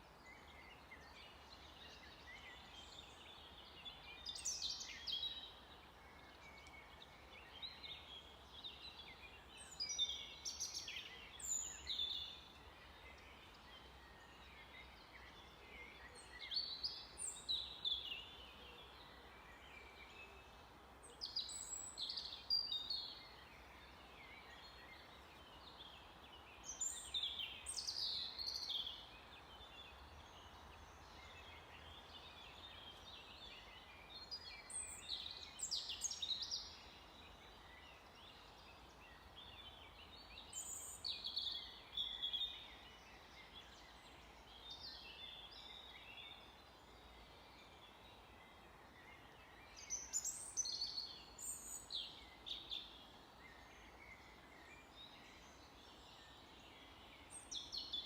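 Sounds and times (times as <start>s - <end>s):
faint background hiss: 0.0s - 58.0s
songbirds chirping and trilling: 0.0s - 58.0s.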